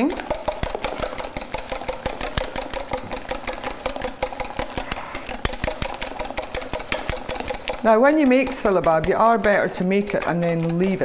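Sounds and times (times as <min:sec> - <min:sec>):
whisk clicking against metal pan: 0:00.0 - 0:11.0.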